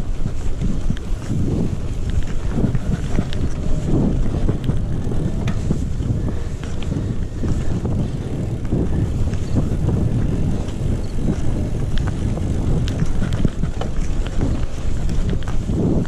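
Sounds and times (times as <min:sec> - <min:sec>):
bike clicks and rattles: 0:00.0 - 0:16.0
tyres and wind rumbling: 0:00.0 - 0:16.0.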